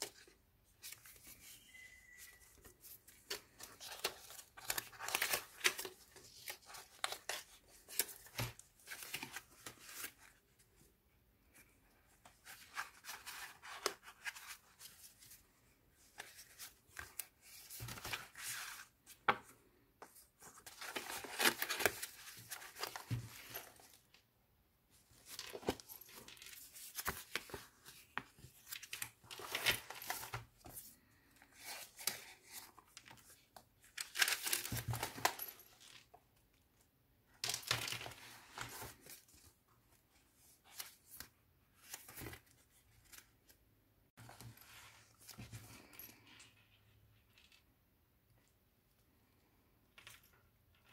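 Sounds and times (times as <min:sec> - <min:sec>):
paper pages rustling and crinkling: 0:00.0 - 0:10.4, 0:12.2 - 0:15.4, 0:16.0 - 0:24.2, 0:25.0 - 0:36.2, 0:37.4 - 0:43.6, 0:44.2 - 0:46.3.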